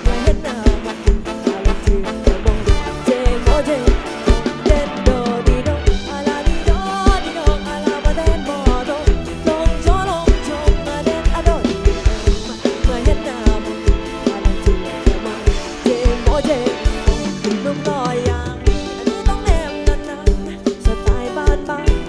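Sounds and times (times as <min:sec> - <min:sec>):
drum kit beating: 0:00.0 - 0:22.0
sliding lead melody: 0:00.0 - 0:22.0.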